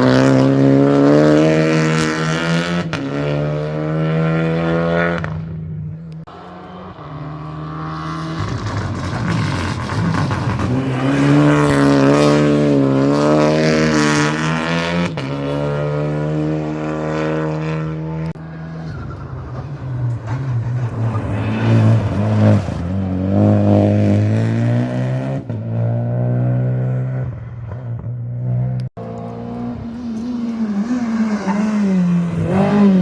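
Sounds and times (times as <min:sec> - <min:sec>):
car engine revving: 0:00.0 - 0:33.0
rally car engine passing: 0:00.0 - 0:33.0.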